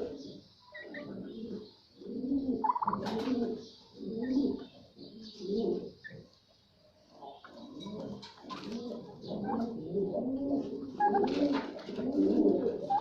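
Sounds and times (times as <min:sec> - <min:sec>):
pigeons cooing: 0:00.0 - 0:06.4, 0:07.0 - 0:13.0.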